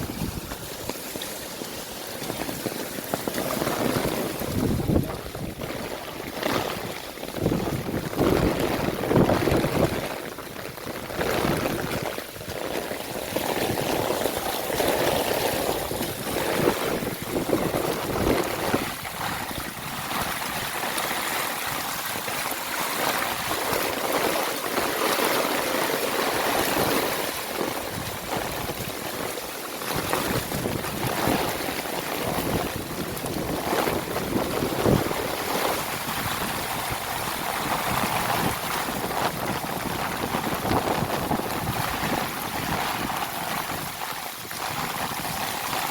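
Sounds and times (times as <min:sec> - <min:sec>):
heavy rain pouring: 0:00.0 - 0:45.9
raindrops splashing: 0:00.0 - 0:45.9.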